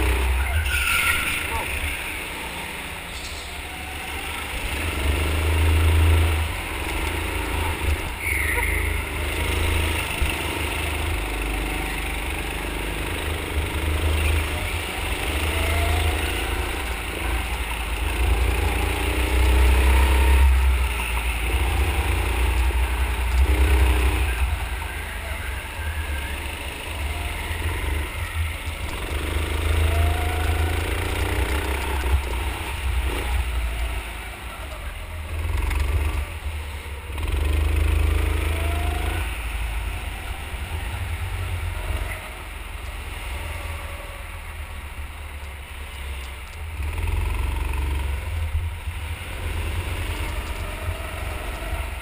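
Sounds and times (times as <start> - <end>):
go-kart motor revving: 0.0 - 52.0.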